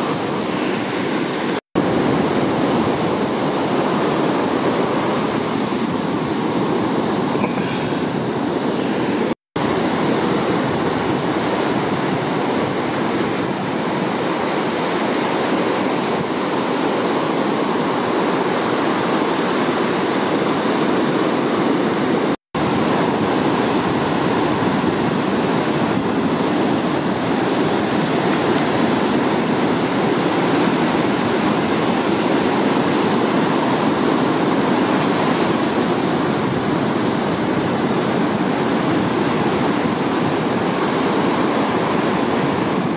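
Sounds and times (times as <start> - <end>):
ocean surf breaking: 0.0 - 42.9.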